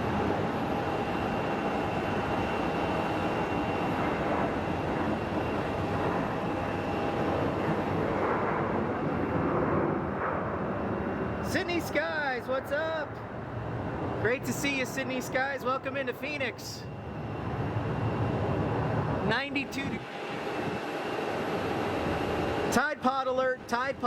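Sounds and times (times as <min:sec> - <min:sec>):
faint high engine whine: 0:00.0 - 0:24.0
jet engines running: 0:00.0 - 0:24.0.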